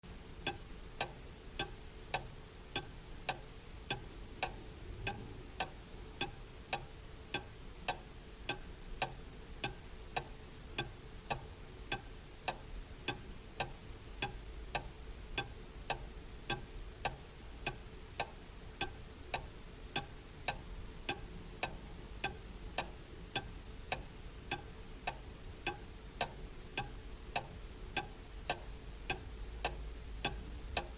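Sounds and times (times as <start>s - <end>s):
faint low hum: 0.0s - 30.9s
clock ticking: 0.4s - 30.9s.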